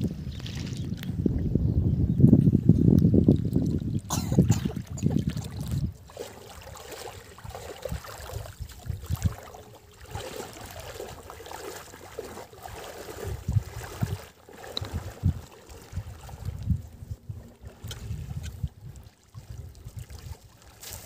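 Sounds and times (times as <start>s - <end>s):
wind rumble on microphone: 0.0s - 21.0s
water splashing around wading legs: 0.3s - 1.1s, 3.2s - 16.8s, 17.5s - 21.0s.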